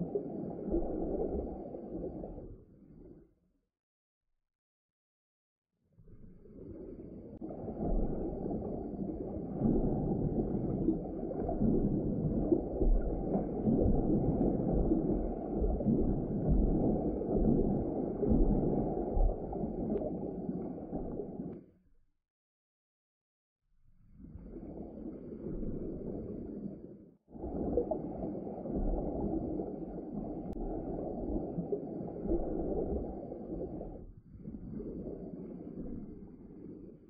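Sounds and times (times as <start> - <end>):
muffled underwater rumbling: 0.0 - 3.2, 6.0 - 21.6, 24.0 - 37.0.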